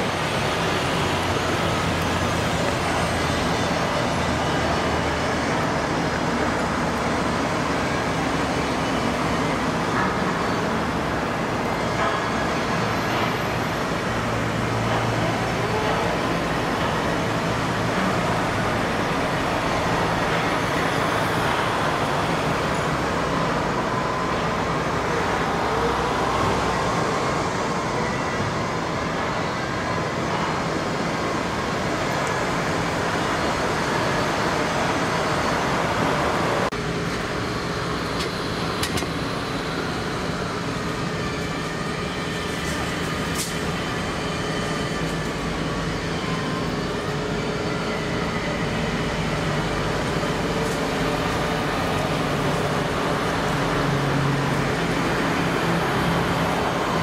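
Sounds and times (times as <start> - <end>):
steady mechanical noise: 0.0 - 57.0.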